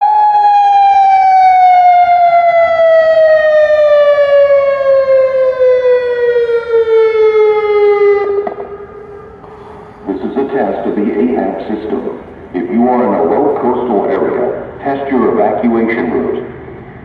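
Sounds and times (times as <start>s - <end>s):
warning siren long tone: 0.0s - 14.8s.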